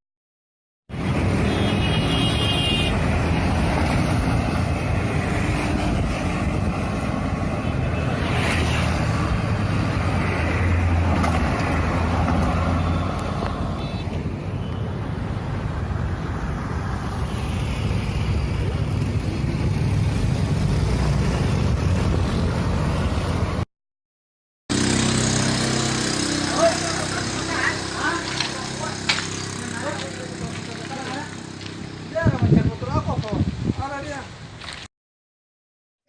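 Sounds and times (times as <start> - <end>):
wind and road noise: 0.9 - 23.7, 24.7 - 34.9.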